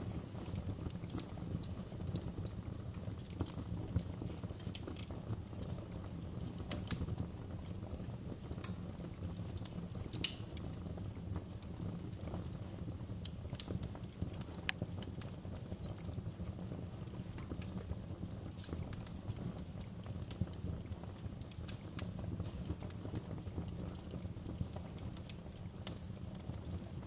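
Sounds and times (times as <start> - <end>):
low rumble of burning: 0.0 - 27.0
wood fire crackling and popping: 0.0 - 27.0.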